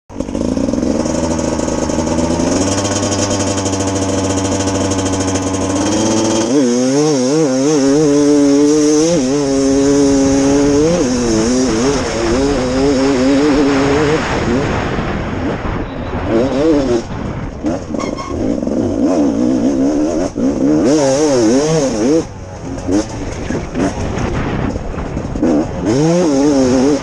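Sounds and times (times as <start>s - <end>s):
motorcycle engine revving: 0.1s - 27.0s.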